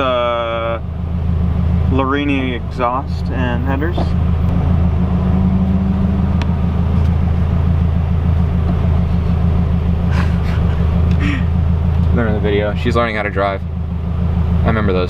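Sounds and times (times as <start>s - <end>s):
car engine drone from cabin: 0.0s - 15.0s.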